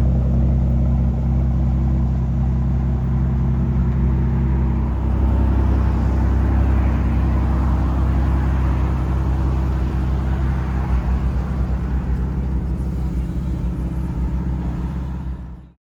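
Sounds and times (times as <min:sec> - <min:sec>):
car engine running steadily: 0:00.0 - 0:15.8.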